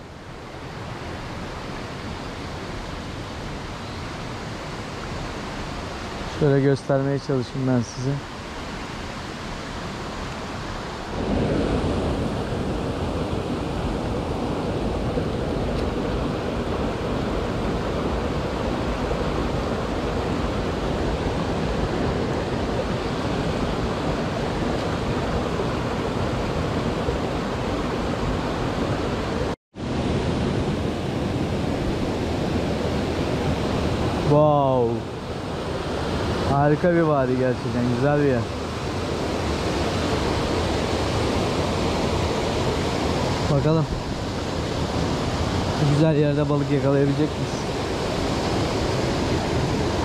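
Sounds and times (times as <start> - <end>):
rushing mountain stream: 0.0 - 50.0.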